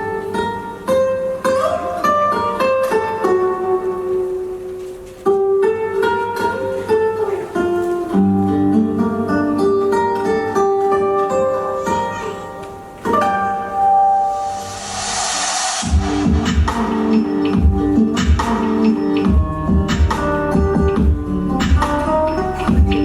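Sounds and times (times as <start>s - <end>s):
plucked string music: 0.0s - 15.1s, 15.8s - 23.0s.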